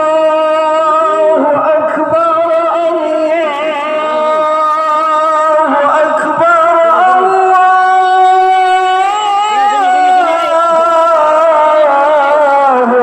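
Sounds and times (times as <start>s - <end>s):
person singing a chant: 0.0s - 13.0s.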